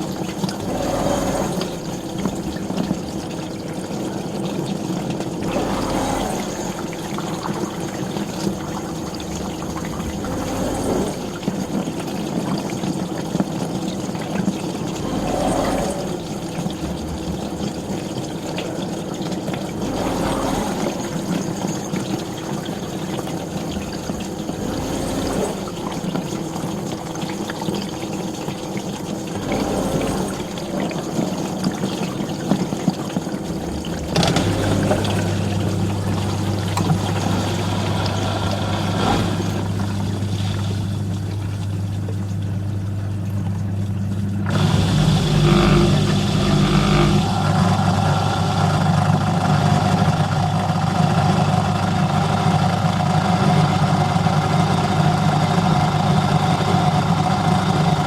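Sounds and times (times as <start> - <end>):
water spraying in dishwasher: 0.0 - 54.4
dishwasher motor hum: 0.0 - 58.0.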